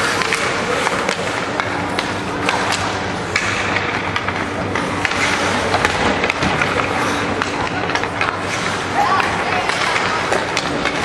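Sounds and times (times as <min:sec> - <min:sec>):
hockey sticks and puck clacking: 0:00.0 - 0:11.0
skates scraping on ice: 0:00.0 - 0:11.0.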